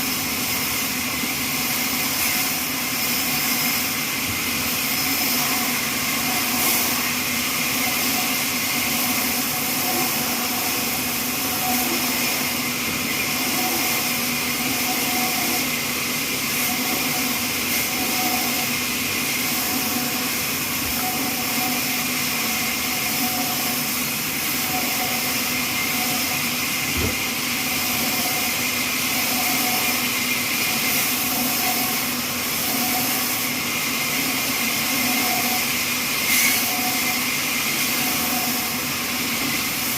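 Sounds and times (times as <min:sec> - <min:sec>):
sawmill machine hum and hiss: 0:00.0 - 0:39.9.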